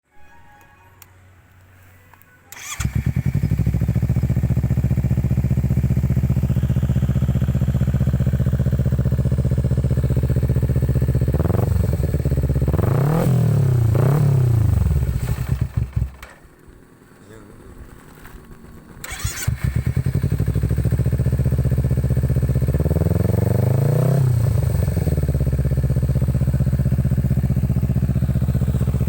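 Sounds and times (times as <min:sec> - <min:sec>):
motorcycle idling: 0:02.5 - 0:12.8, 0:13.4 - 0:29.0
motorcycle engine revving: 0:02.5 - 0:29.0.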